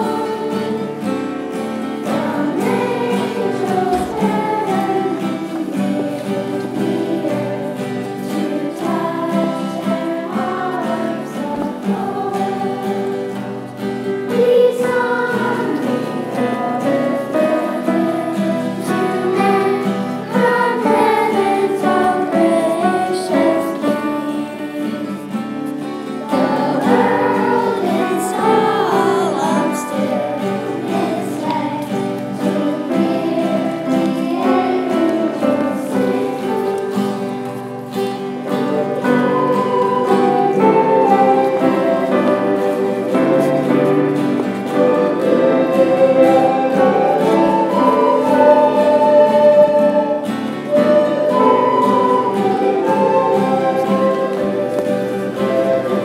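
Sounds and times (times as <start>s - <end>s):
children singing in chorus: 0.0s - 56.0s
woodwind instruments: 0.0s - 56.0s.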